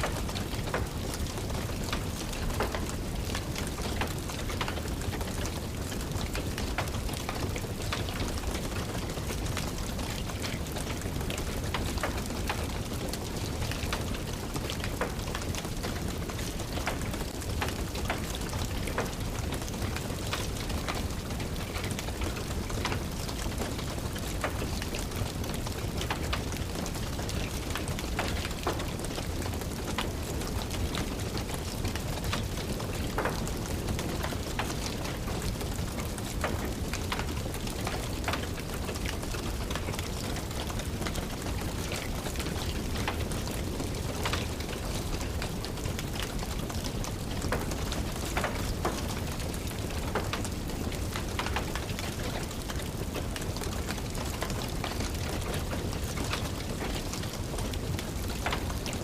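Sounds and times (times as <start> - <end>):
rain falling: 0.0 - 59.0
wood fire crackling: 0.0 - 59.0.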